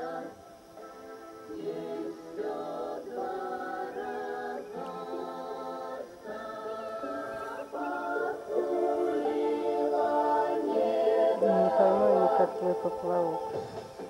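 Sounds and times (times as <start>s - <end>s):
choir singing slow song: 0.0s - 14.0s.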